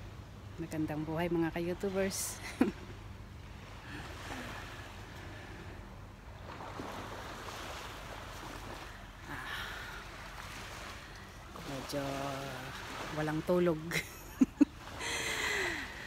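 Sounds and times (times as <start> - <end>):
low constant rumble: 0.0 - 16.0
small waves washing on beach: 0.0 - 16.0.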